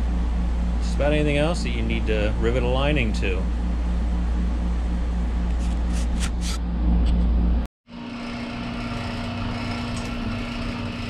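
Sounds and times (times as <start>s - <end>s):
pulsing low machine hum: 0.0s - 11.0s.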